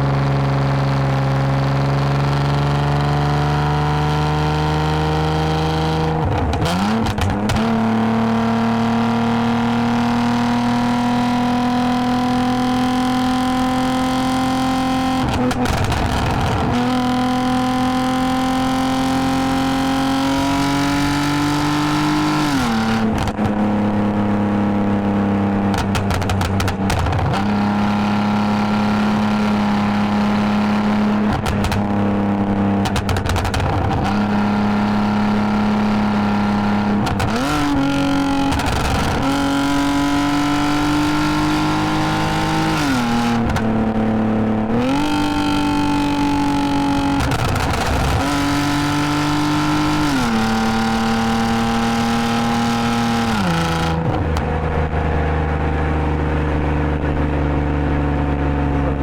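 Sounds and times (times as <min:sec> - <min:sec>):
car engine revving under way: 0:00.0 - 0:59.0.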